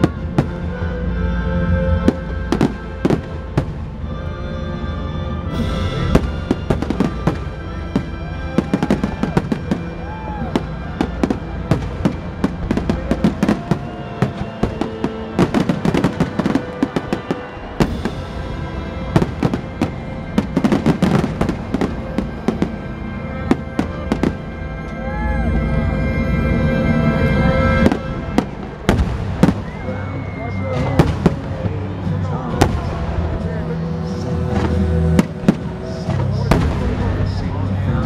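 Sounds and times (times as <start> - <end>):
fireworks bangs and crackling: 0.0 - 0.9, 2.0 - 4.2, 5.5 - 25.2, 27.4 - 38.0
music playing: 0.0 - 38.0.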